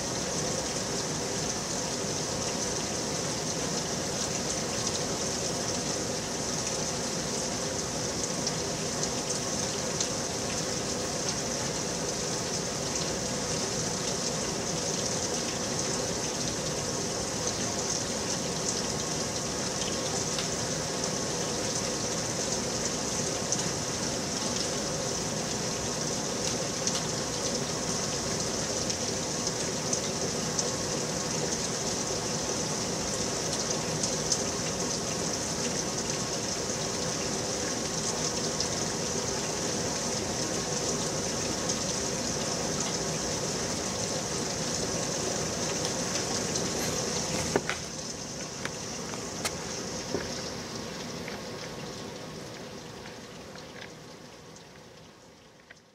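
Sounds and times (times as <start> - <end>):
rain falling steadily: 0.0 - 55.9
sharp raindrops striking close: 0.3 - 55.9.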